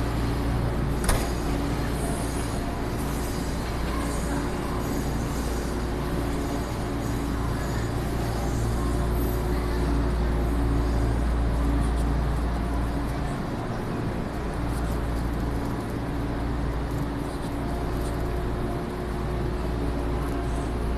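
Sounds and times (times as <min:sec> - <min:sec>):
train rumble and hum: 0:00.0 - 0:20.9.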